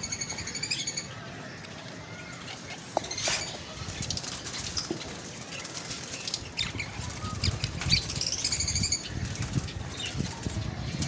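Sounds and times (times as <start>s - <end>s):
birds fluttering wings: 1.6s - 11.0s.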